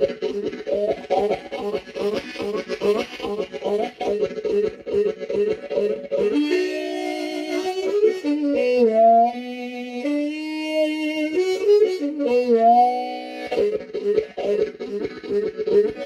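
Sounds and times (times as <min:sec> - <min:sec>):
blues harmonica in a tin can: 0:00.0 - 0:16.0.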